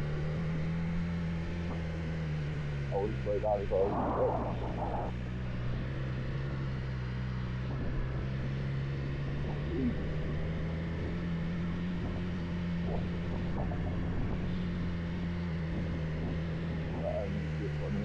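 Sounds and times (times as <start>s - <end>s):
vehicle engine climbing: 0.0s - 18.0s.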